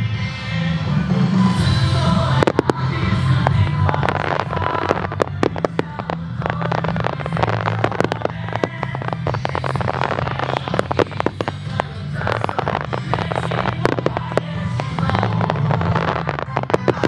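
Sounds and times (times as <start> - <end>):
fireworks crackle: 1.1 - 17.0
fireworks shells bursting: 2.3 - 17.0.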